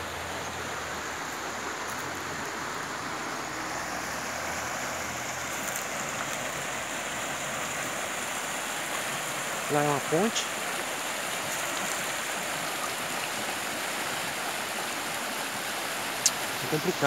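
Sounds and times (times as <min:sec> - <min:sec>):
creek flowing over rocks: 0:00.0 - 0:17.0.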